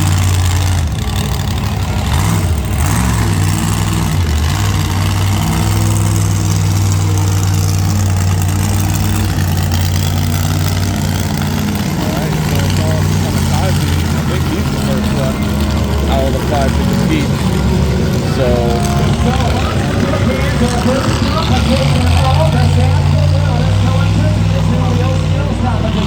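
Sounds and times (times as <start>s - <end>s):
monster truck engine idling: 0.0s - 26.0s.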